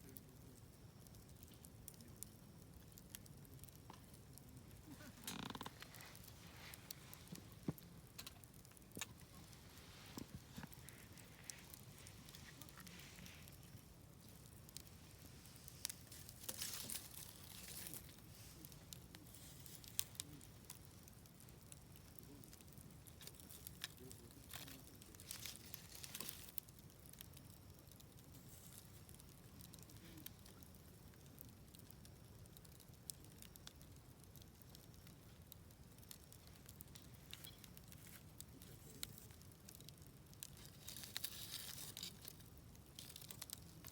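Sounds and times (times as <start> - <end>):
campfire crackling and popping: 0.0 - 43.9
campfire low hiss: 0.0 - 43.9.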